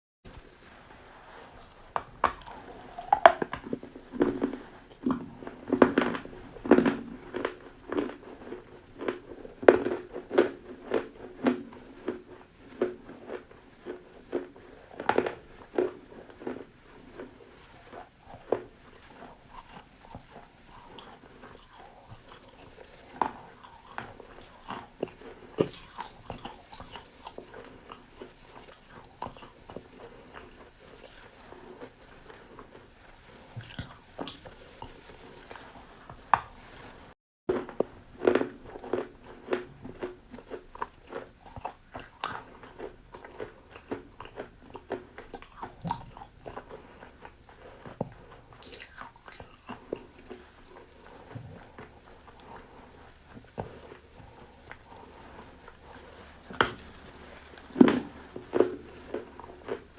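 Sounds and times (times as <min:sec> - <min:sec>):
crunchy food being chewed: 0:00.3 - 0:59.9.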